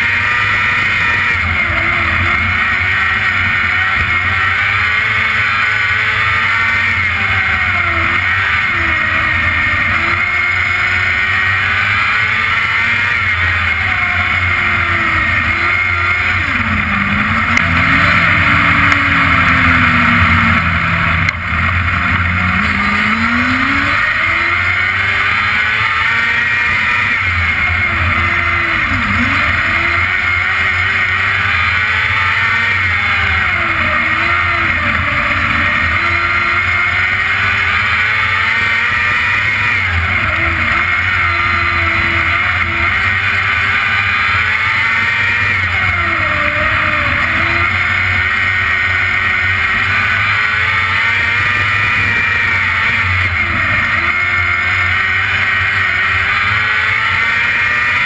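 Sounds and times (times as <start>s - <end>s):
racing car engine: 0.0s - 58.0s.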